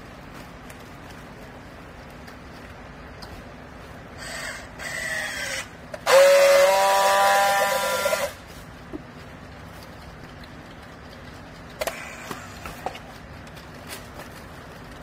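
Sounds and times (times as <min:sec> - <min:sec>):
baler machinery whirring: 0:00.0 - 0:15.0.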